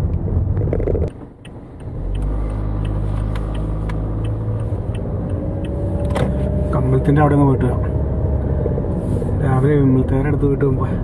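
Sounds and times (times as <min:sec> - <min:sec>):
car engine drone: 0:00.0 - 0:11.0
road noise inside car: 0:00.0 - 0:11.0.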